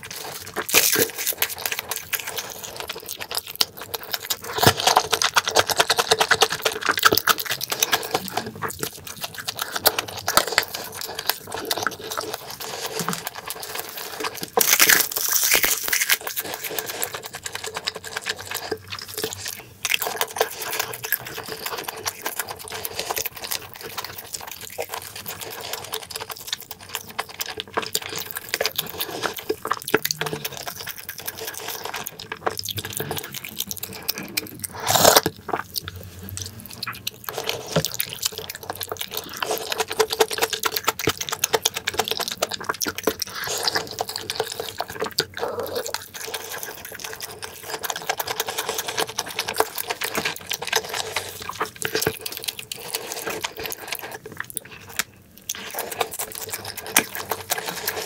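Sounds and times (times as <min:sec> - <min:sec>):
man chewing and slurping: 0:00.0 - 0:58.0.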